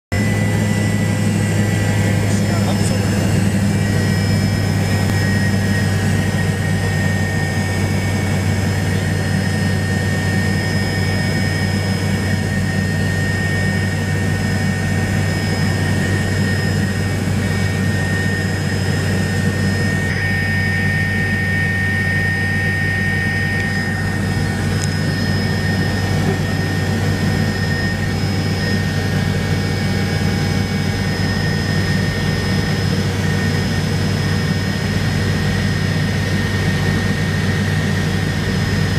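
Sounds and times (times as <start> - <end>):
helicopter rotor and engine drone: 0.1 - 38.9
high whine: 0.1 - 38.9.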